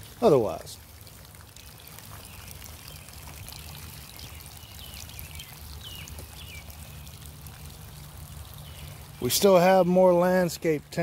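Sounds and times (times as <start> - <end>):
water spraying and pattering: 0.0 - 11.0.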